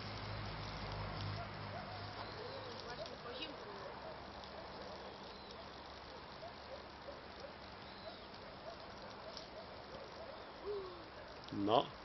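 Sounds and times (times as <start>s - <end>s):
steady background hiss: 0.0s - 12.0s
crickets chirping: 2.0s - 12.0s.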